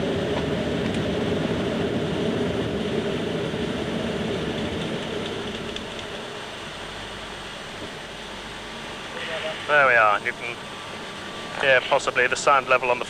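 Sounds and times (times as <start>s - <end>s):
airflow rush in cockpit: 0.0s - 13.0s.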